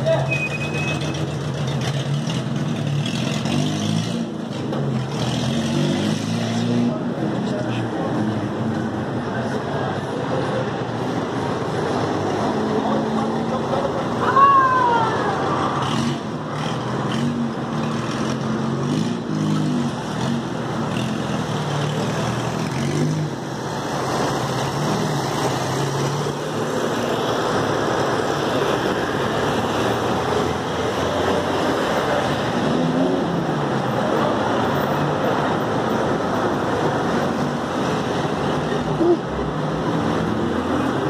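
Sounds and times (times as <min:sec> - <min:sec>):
road noise: 0:00.0 - 0:41.0
vehicle engines passing: 0:00.0 - 0:41.0.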